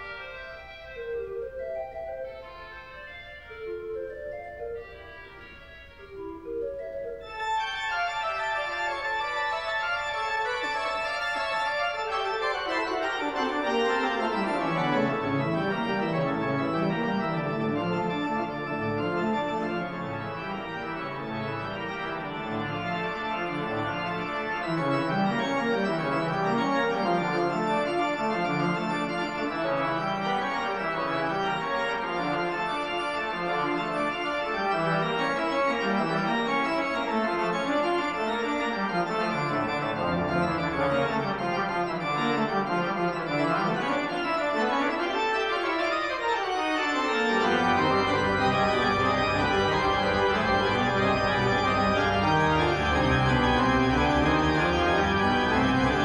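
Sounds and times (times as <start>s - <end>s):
organ-like background music: 0.0s - 56.0s.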